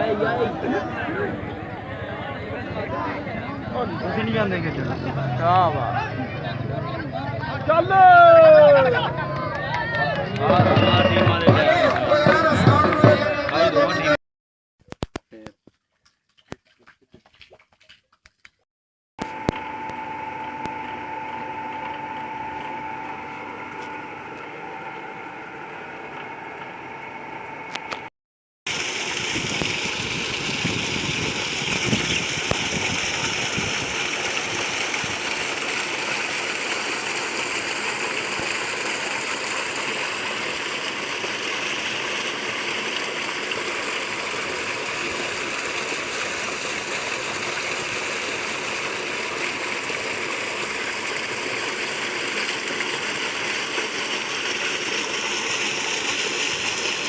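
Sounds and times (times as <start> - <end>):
water rushing and gurgling: 0.0 - 14.1, 19.2 - 28.1, 28.7 - 57.0.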